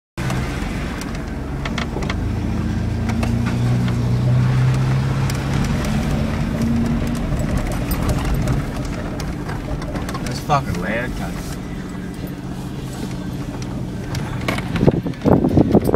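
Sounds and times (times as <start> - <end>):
car engine running under load: 0.2 - 15.9
knocks and rattles over rough ground: 0.2 - 15.9.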